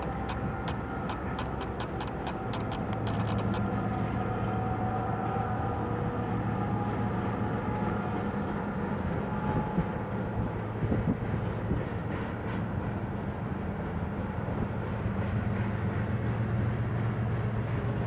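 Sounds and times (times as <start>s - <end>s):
locomotive engine drone: 0.0s - 18.0s
train cars rumbling: 0.0s - 18.0s.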